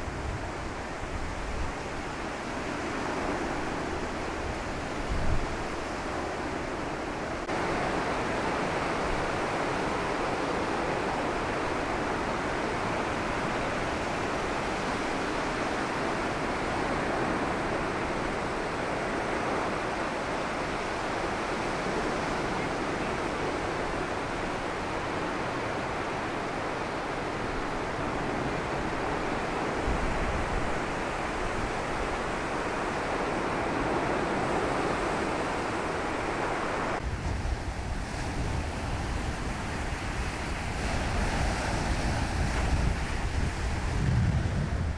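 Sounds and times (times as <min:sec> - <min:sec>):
lake waves breaking: 0:00.0 - 0:44.9
strong wind: 0:00.0 - 0:44.9
wind buffeting microphone: 0:00.0 - 0:44.9.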